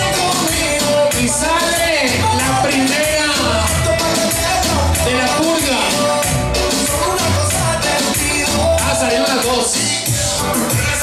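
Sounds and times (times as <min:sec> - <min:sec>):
latin dance music: 0:00.0 - 0:11.0.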